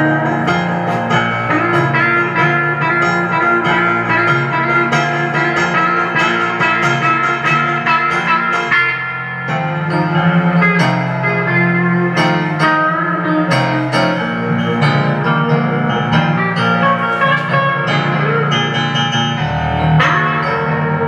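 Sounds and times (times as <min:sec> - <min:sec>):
electric guitar lead: 0:00.0 - 0:21.0.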